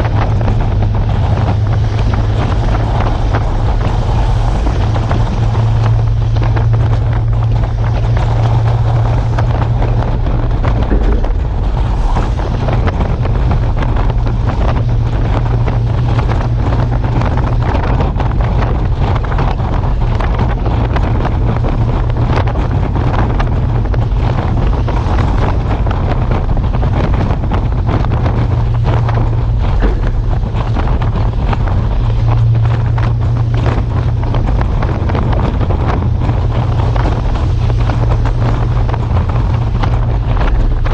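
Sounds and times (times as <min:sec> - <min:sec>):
truck engine droning: 0:00.0 - 0:40.9
wind buffeting microphone: 0:00.0 - 0:40.9.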